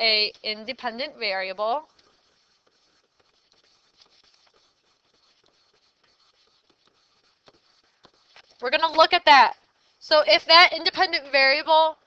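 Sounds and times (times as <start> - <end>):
stylus tapping and scratching on screen: 0.0 - 12.0.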